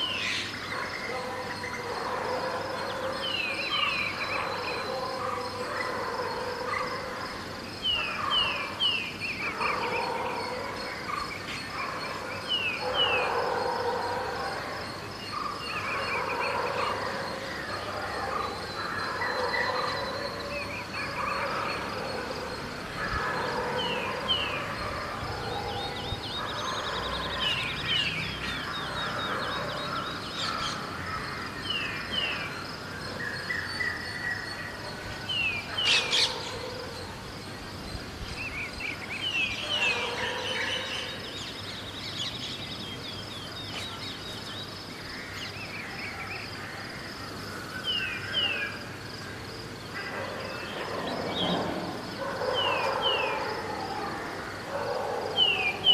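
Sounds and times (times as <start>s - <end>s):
birds chirping: 0.0s - 46.5s.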